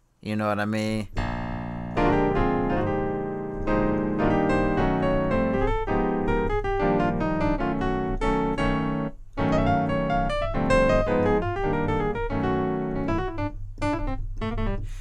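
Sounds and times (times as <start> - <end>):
piano chords: 1.1 - 15.0.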